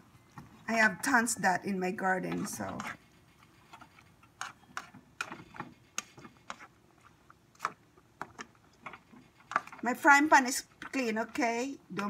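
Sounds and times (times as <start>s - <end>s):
spatula scraping frying pan: 2.1s - 12.0s.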